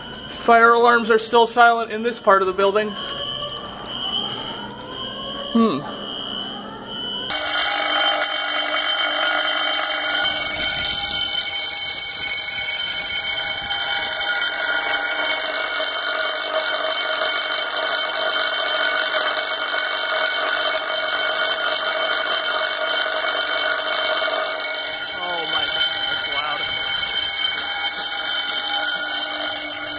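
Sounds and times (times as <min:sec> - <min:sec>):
fire alarm bell ringing: 0:00.0 - 0:29.9.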